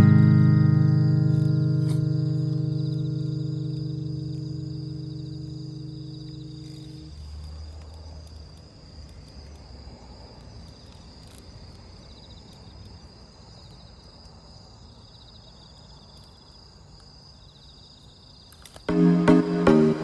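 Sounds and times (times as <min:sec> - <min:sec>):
crickets and insects chirping: 0:00.0 - 0:19.8.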